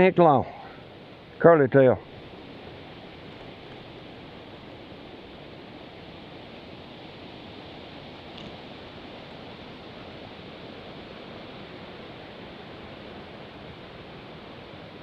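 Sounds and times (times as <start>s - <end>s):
creek water flowing: 0.0s - 15.0s
wind: 0.0s - 15.0s.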